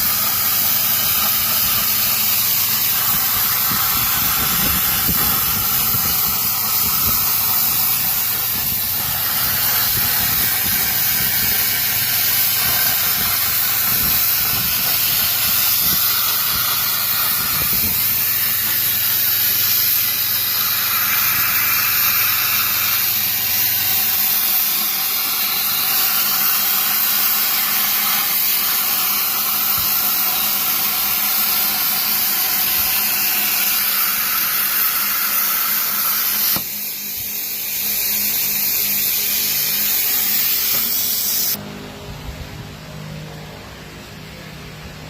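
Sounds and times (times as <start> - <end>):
loud steady hiss: 0.0 - 41.6.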